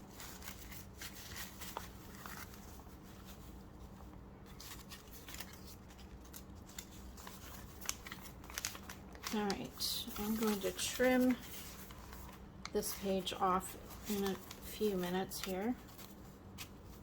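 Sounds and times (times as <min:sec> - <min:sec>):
low steady hum: 0:00.0 - 0:17.0
paper pages rustling: 0:00.0 - 0:17.0.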